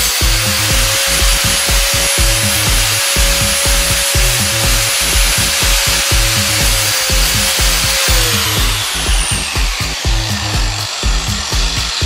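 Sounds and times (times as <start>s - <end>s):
angle grinder whining: 0.0s - 12.0s
background music with bass beat: 0.0s - 12.0s.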